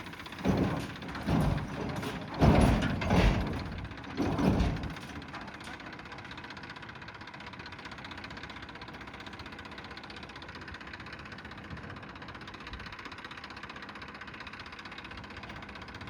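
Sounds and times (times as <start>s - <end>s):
tractor engine knocking: 0.0s - 16.0s.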